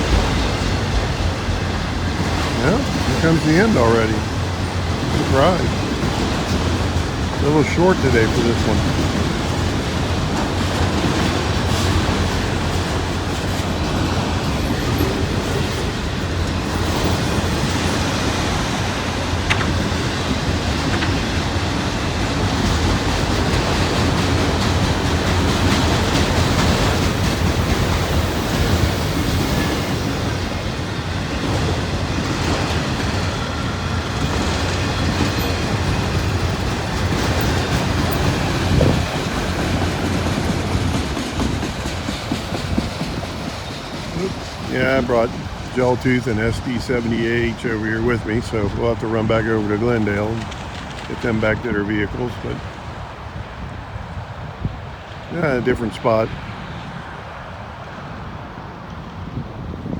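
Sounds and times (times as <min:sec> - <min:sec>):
wheels clattering over rail joints: 0:00.0 - 0:57.6
steel wheels rumbling on rails: 0:00.0 - 0:59.9.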